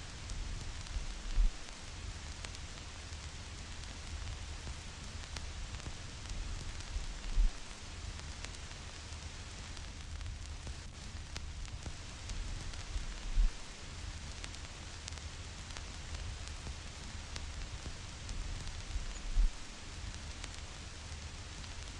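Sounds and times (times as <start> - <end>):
vinyl crackles and pops: 0.0 - 21.9
vinyl hiss and rumble: 0.0 - 21.9.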